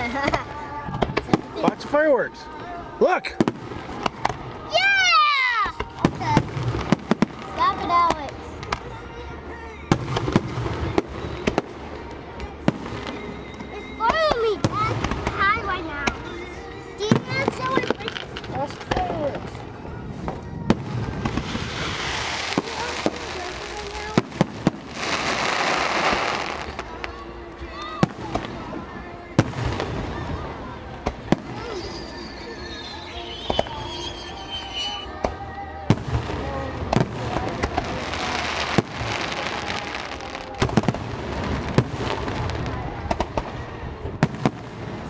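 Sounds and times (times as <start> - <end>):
crackling firework stars: 0.0 - 45.0.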